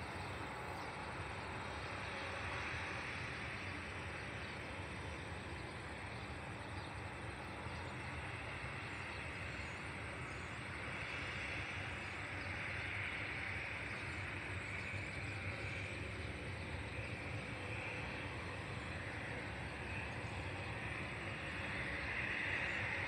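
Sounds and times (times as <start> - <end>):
distant jet engines rushing: 0.0 - 23.0.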